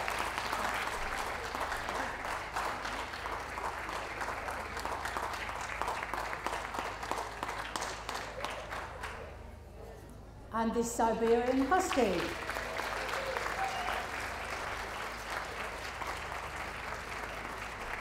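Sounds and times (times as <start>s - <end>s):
crowd clapping: 0.0s - 9.6s, 11.0s - 18.0s.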